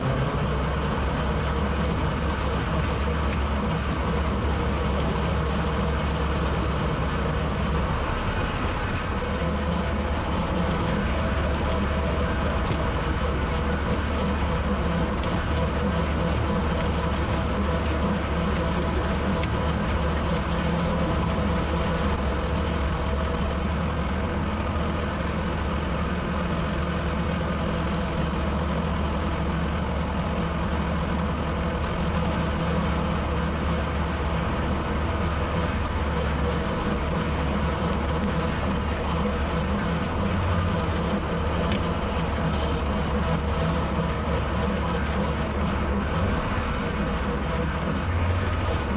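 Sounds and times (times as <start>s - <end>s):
tractor engine droning: 0.0s - 48.9s.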